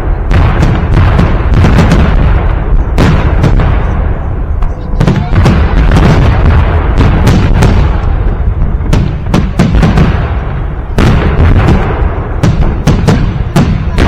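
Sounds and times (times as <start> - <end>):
fireworks booming: 0.0 - 14.0
fireworks sharp cracks: 0.0 - 14.0.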